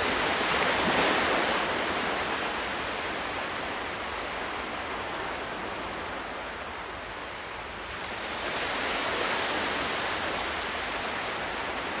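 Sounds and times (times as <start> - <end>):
sea surf washing on shore: 0.0 - 12.0.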